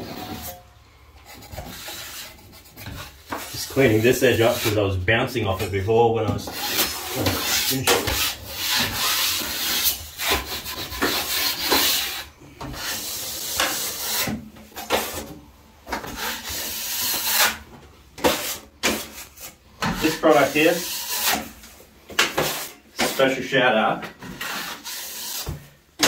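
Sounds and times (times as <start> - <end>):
drywall knife scraping compound: 0.0 - 26.0.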